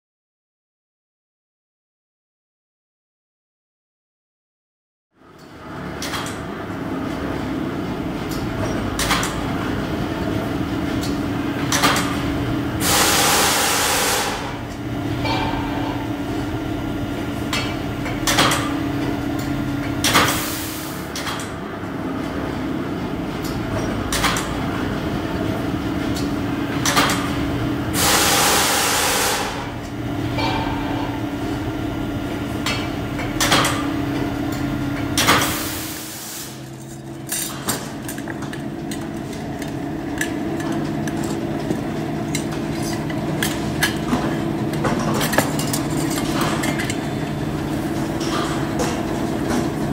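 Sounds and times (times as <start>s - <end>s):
sheet-metal machine humming: 5.6s - 49.9s.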